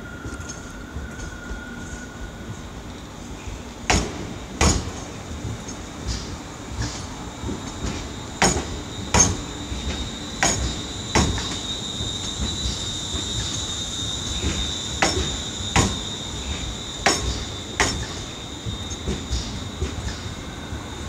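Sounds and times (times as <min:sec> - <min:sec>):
low train rumble: 0:00.0 - 0:21.0
train wheels clicking over rail joints: 0:03.3 - 0:20.9.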